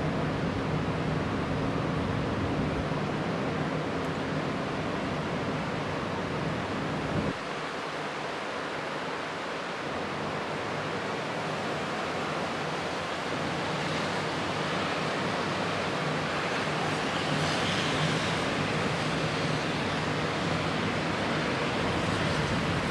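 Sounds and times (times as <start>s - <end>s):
rushing wind: 0.0s - 22.9s.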